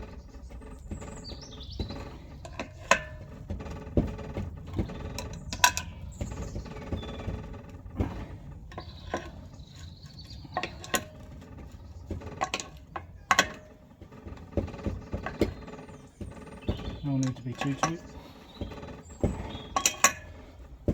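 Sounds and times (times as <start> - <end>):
spanner clicking on metal nuts: 0.0 - 20.9.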